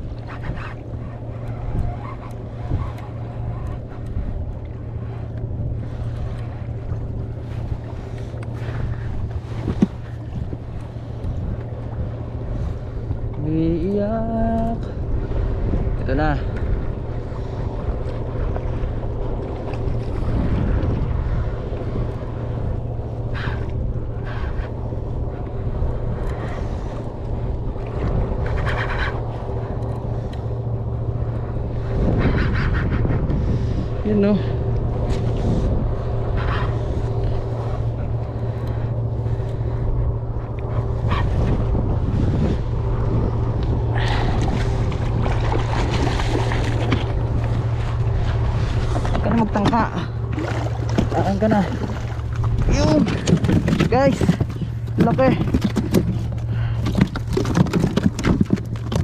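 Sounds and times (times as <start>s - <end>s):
outboard motor running: 0.0s - 59.0s
sea noise: 0.0s - 59.0s
wind buffeting microphone: 0.0s - 59.0s.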